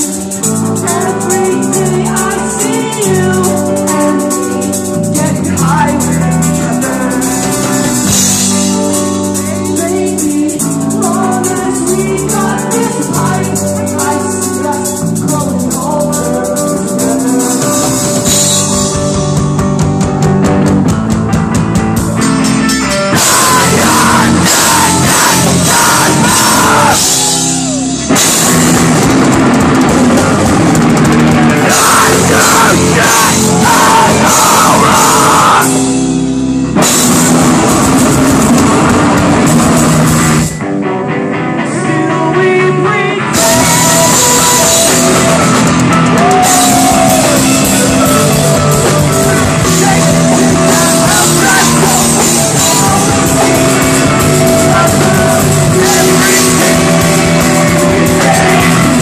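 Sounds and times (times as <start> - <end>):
ringing electric guitar chords: 0.0 - 15.2, 15.9 - 59.0
driving drums and cymbals: 0.0 - 40.6, 43.3 - 59.0
live rock band playing: 0.0 - 59.0.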